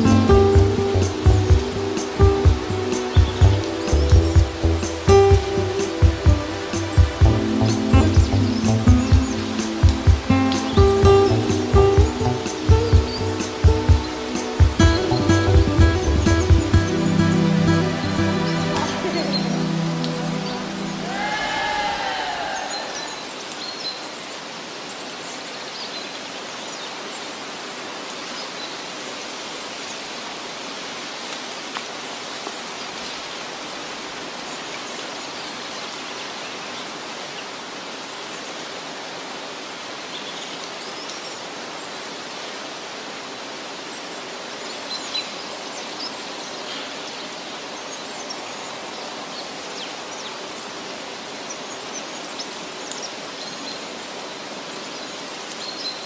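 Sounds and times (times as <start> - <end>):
rushing noise like running water: 0.0 - 56.0.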